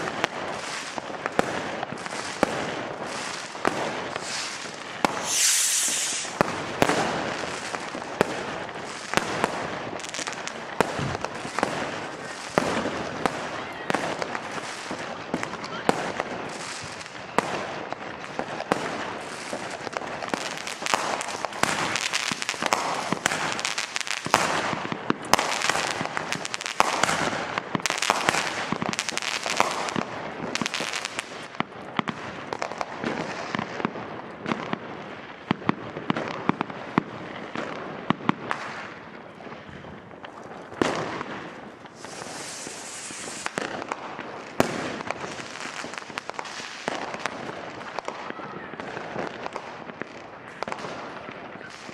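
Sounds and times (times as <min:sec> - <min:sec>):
fireworks crackling and popping: 0:00.0 - 0:51.9
loud firework bangs: 0:00.0 - 0:51.9.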